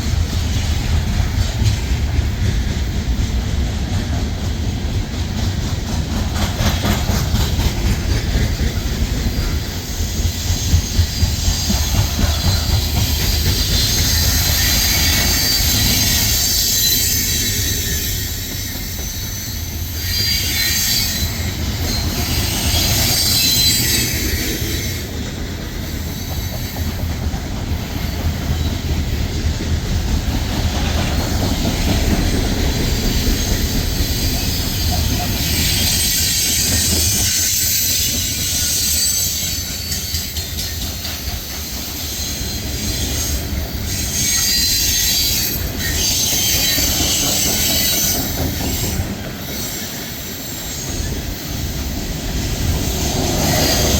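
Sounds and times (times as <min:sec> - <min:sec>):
high-pitched wheel and rail noise: 0:00.0 - 0:53.9
train wheels rumbling on rails: 0:00.0 - 0:53.9.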